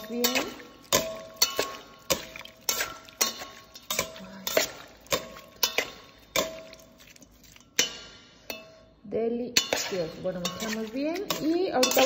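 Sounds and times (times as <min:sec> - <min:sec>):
metal tongs clinking in steel bowl: 0:00.0 - 0:08.9, 0:09.5 - 0:12.0.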